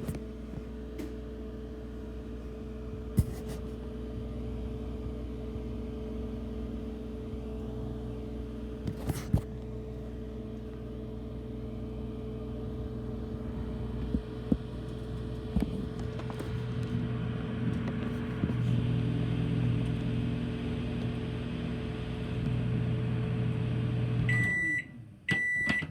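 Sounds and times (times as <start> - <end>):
microwave oven humming: 0.0 - 25.9.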